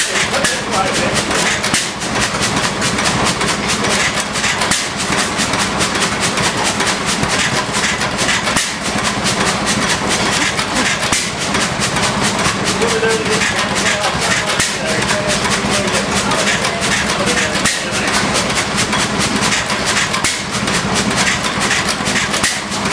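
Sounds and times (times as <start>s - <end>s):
stationary engine clattering: 0.0s - 22.9s.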